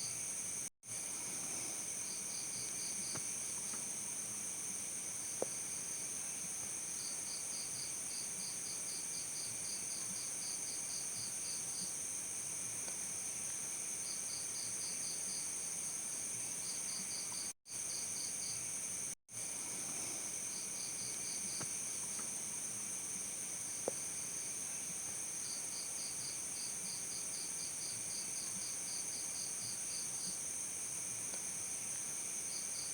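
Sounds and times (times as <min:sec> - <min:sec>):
crickets chirping: 0:00.0 - 0:32.9.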